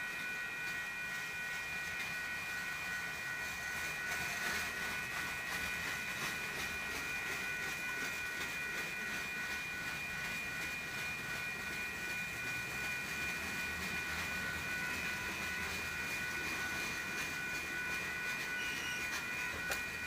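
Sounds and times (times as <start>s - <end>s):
high-pitched train whine: 0.0s - 20.0s.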